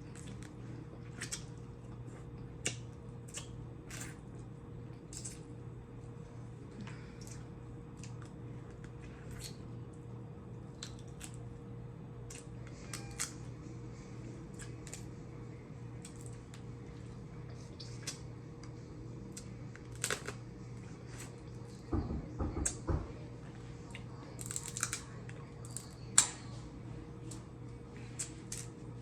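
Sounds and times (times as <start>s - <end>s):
chewing and eating sounds: 0.0s - 21.9s, 22.6s - 29.0s
low electrical hum: 0.0s - 29.0s.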